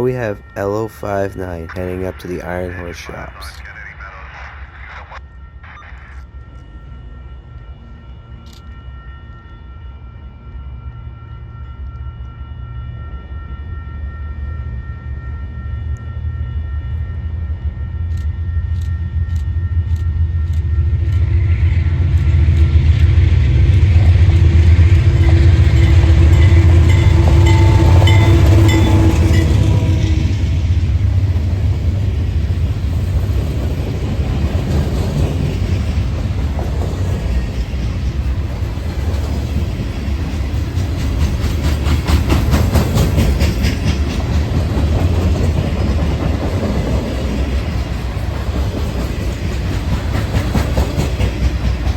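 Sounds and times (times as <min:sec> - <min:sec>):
diesel train rumble: 0:06.3 - 0:51.9.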